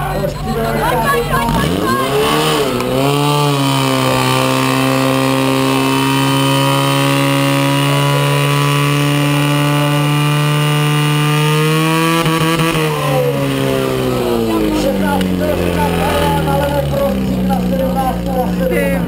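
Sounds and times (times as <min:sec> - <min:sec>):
pump engine running high: 0:01.7 - 0:18.7.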